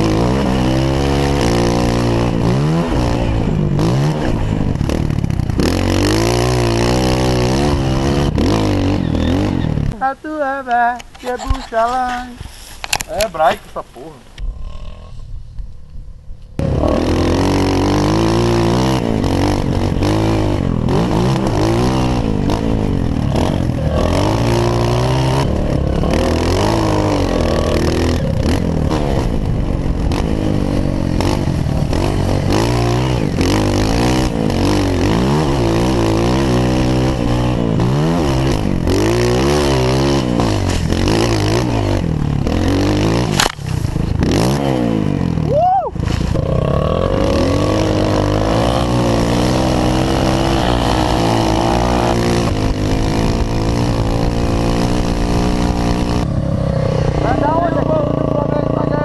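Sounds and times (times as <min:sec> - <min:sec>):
motorcycle engine revving: 0:00.0 - 0:10.1, 0:16.2 - 0:59.0.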